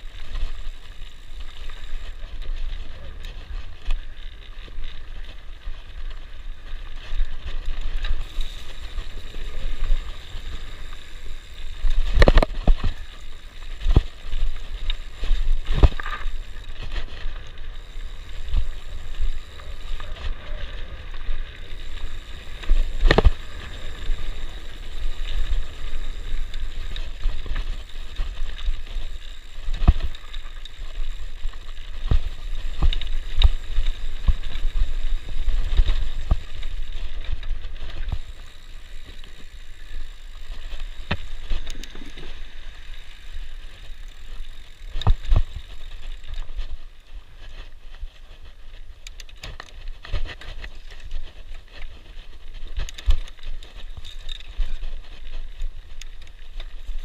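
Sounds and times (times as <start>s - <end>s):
bike knocking and rattling over bumps: 0.0s - 57.0s
bike tyre noise on dirt: 0.0s - 57.0s.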